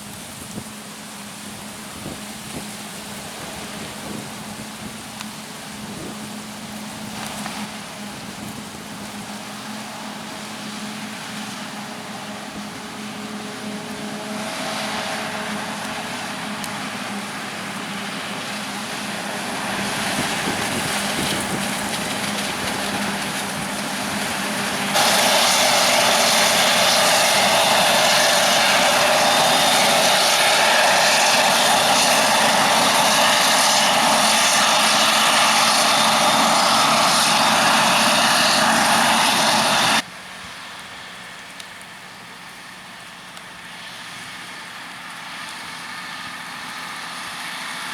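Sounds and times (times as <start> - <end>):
loud steady machine noise: 0.0 - 40.3
tractor and harvester engines: 0.0 - 47.9.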